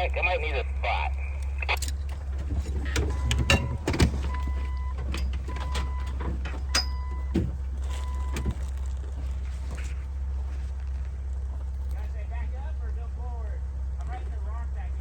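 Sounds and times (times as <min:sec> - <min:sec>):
off-road vehicle engine running low: 0:00.0 - 0:15.0.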